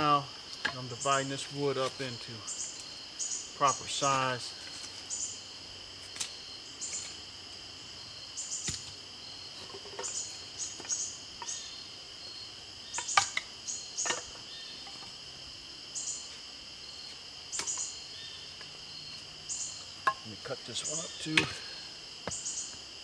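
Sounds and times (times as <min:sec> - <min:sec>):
insects singing: 0:00.0 - 0:23.0.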